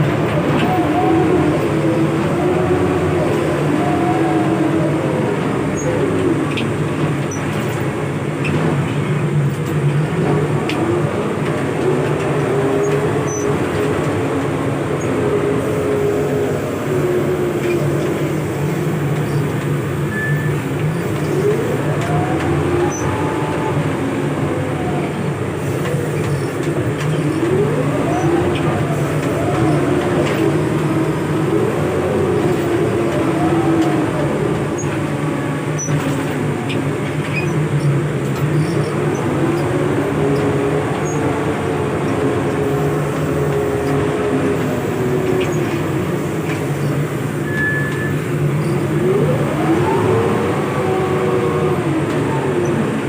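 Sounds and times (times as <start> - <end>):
diesel engine running: 0.0 - 53.0
heavy rain: 0.0 - 53.0.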